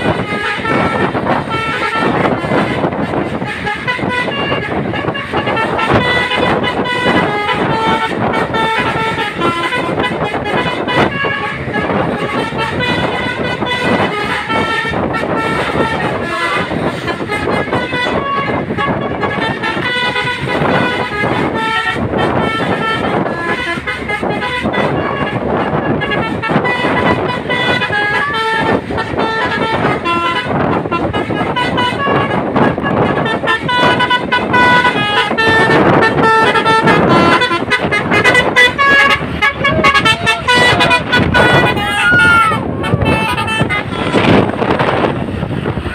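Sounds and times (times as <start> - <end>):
multi-tone musical truck horn: 0.0 - 45.9
traffic noise: 0.0 - 45.9.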